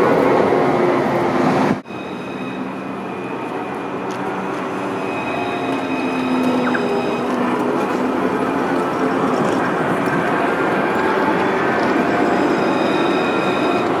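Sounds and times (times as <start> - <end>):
tram running hum: 0.0 - 14.0.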